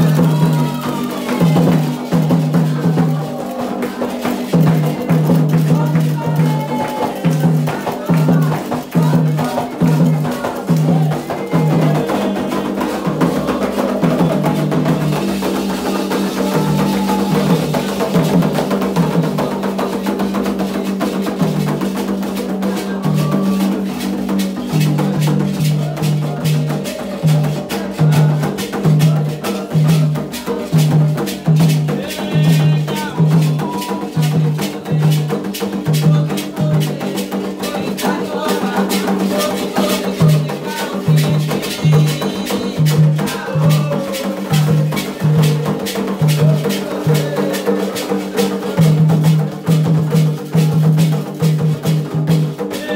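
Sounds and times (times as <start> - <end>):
hand drums beating: 0.0 - 52.9
sharp percussion: 0.0 - 52.9.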